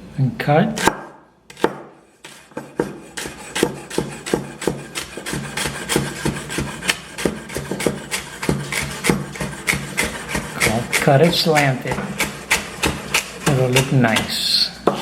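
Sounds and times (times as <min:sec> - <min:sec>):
knife cutting celery on board: 0:00.7 - 0:14.4.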